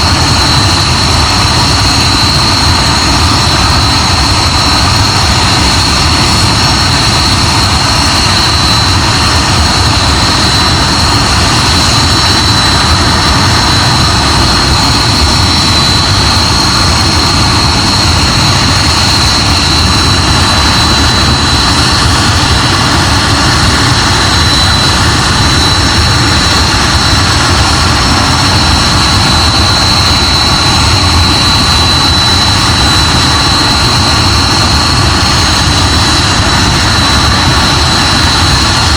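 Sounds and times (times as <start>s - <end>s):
jet engine whine and rumble: 0.0s - 38.9s.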